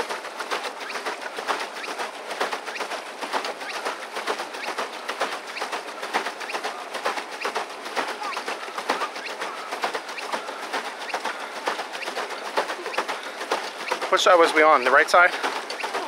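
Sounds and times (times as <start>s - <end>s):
paddle wheel splashing water: 0.0s - 16.0s.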